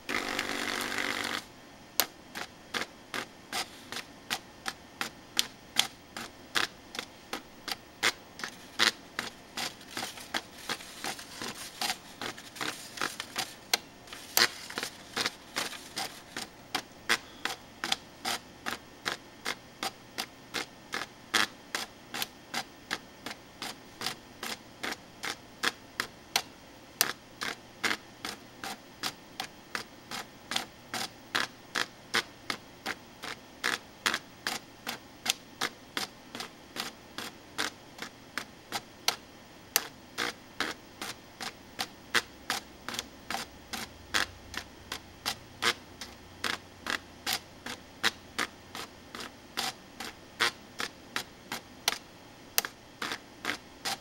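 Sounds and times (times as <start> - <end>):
faint plotter whirr: 0.0 - 54.0.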